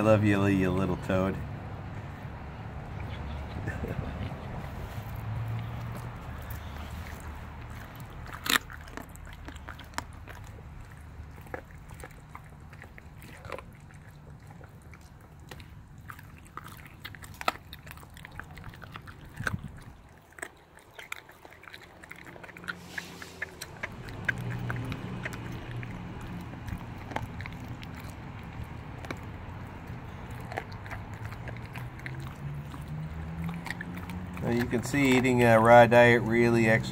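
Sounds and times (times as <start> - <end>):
puppy chewing raw bone: 0.0 - 36.9.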